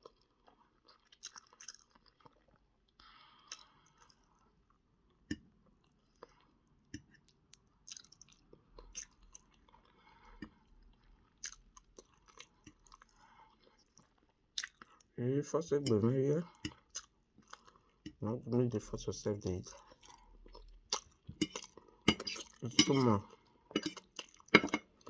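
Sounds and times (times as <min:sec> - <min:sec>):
person chewing food: 0:00.0 - 0:15.2, 0:15.8 - 0:18.2, 0:19.4 - 0:25.0.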